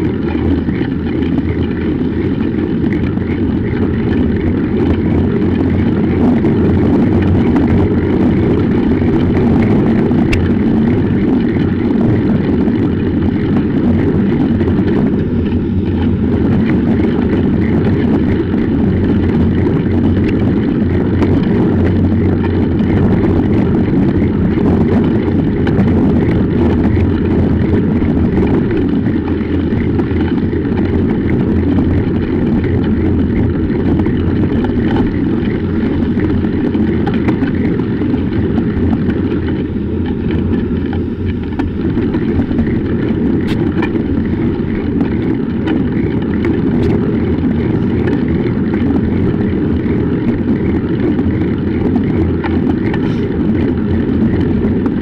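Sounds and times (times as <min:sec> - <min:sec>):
bicycle tyres rolling on snow: 0:00.0 - 0:55.0
wind on microphone: 0:00.0 - 0:55.0.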